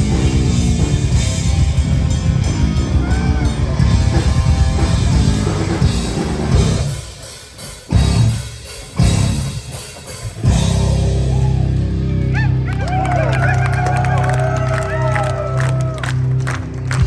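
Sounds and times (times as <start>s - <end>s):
heavy rock band playing: 0.0s - 17.0s.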